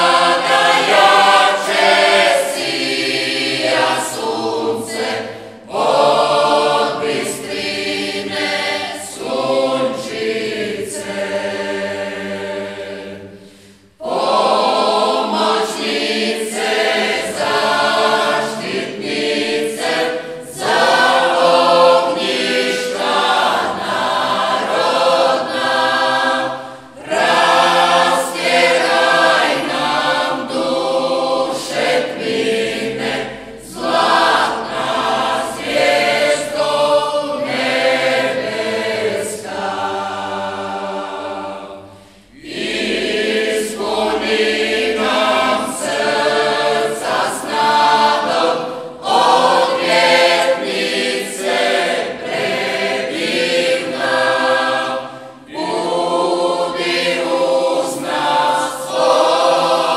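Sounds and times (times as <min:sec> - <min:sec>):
mixed choir singing a hymn: 0:00.0 - 0:59.9.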